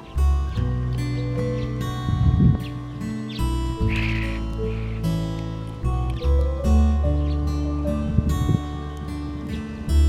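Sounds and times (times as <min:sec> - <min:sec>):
acoustic guitar music: 0:00.0 - 0:10.0
steady bass: 0:00.0 - 0:10.0.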